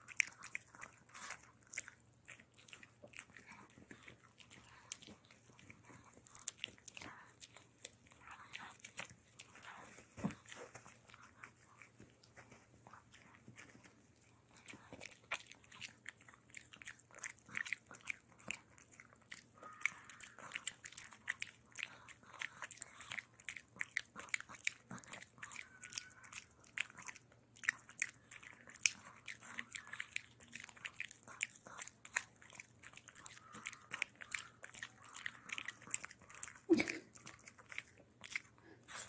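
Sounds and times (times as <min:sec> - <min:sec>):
dog gnawing a hard chew: 0:00.0 - 0:39.0.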